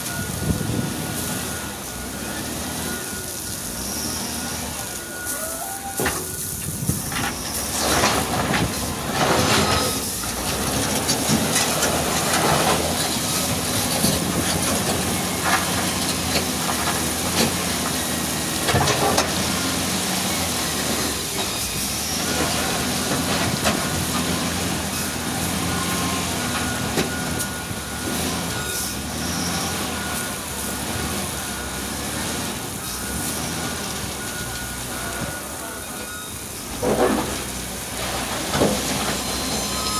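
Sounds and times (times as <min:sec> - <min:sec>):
wheel loader diesel engine: 0:00.0 - 0:39.9.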